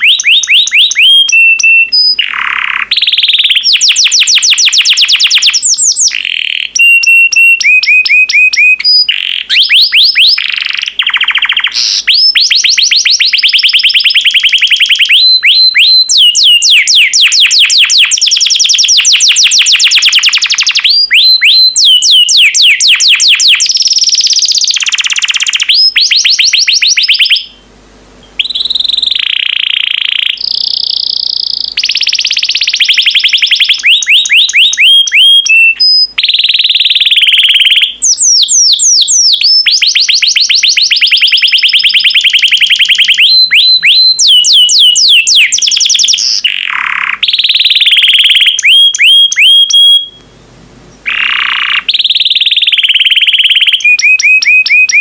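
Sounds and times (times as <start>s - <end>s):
canary singing in fast trills: 0.0s - 27.6s, 28.2s - 50.2s, 51.0s - 55.0s.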